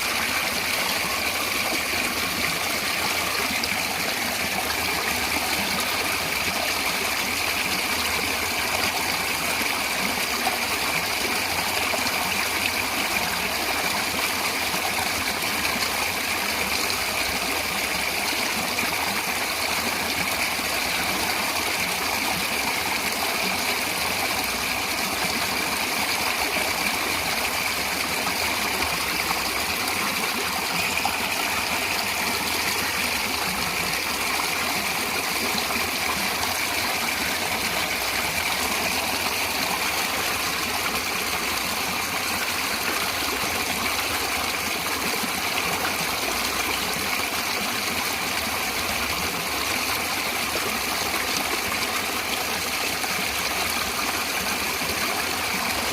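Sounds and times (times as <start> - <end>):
stream water rushing and trickling: 0.0 - 55.9.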